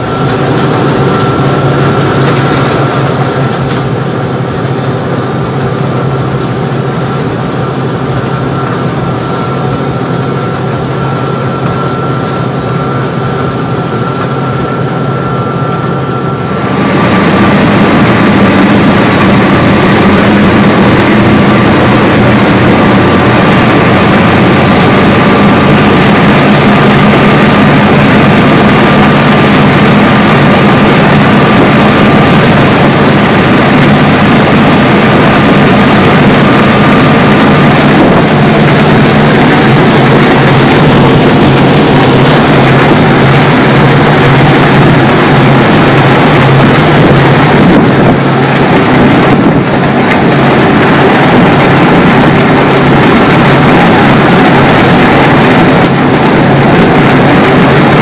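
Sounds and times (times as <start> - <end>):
boat diesel engines at high speed: 0.0 - 58.0
wake rushing: 0.0 - 58.0
wind: 0.0 - 58.0.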